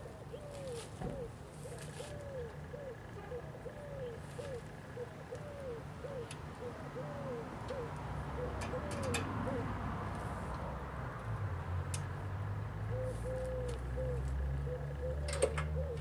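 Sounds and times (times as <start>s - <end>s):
dove cooing: 0.0s - 10.0s, 12.8s - 16.0s.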